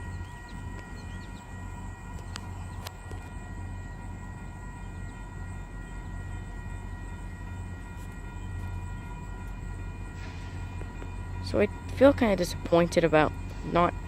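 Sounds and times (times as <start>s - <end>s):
level crossing warning bell: 0.0s - 14.0s
steady low hum: 0.0s - 14.0s.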